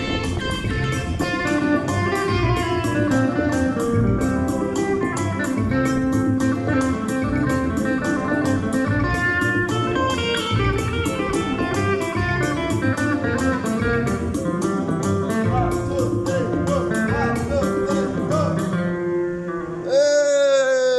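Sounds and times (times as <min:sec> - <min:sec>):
music with beat and guitar: 0:00.0 - 0:20.2.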